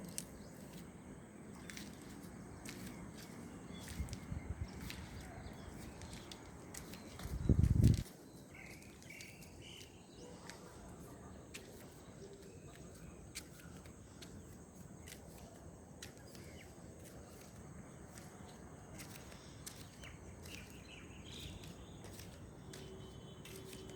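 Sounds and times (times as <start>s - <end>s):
bird chirps: 1.5s - 15.2s, 16.2s - 23.9s.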